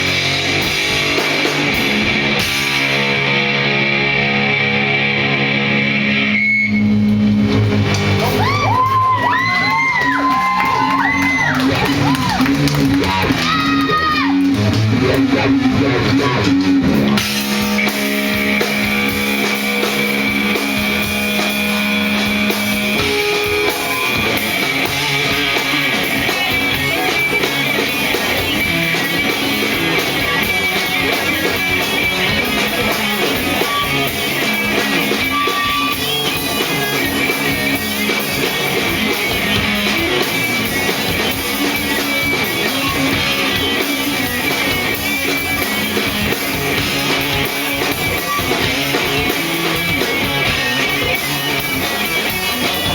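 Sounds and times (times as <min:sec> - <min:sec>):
drum kit: 0:00.0 - 0:05.7, 0:06.4 - 0:52.9
electric guitar: 0:00.0 - 0:52.9
rock band playing live: 0:00.0 - 0:52.9.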